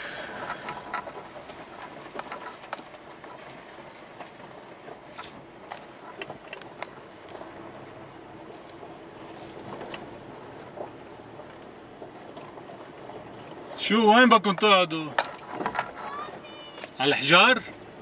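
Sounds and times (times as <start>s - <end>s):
vehicle rumbling over stony track: 0.0s - 18.0s.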